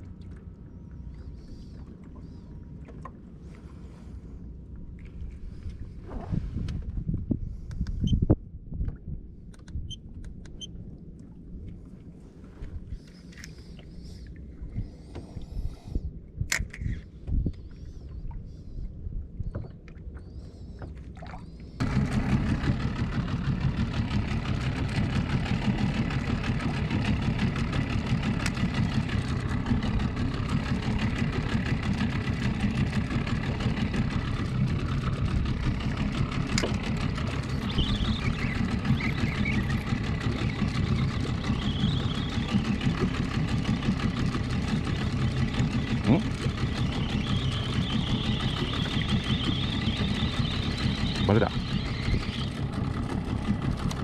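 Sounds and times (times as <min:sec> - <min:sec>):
outboard motor running: 0:00.0 - 0:08.4, 0:10.6 - 0:54.0.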